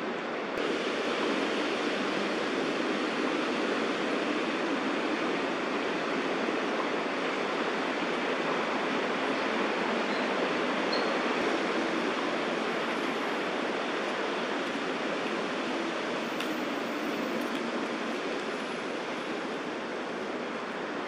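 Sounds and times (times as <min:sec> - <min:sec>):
steady rushing background noise: 0:00.0 - 0:21.0.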